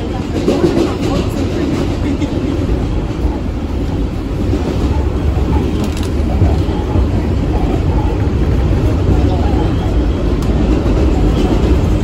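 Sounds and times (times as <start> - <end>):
subway car low rumble: 0.0 - 12.0.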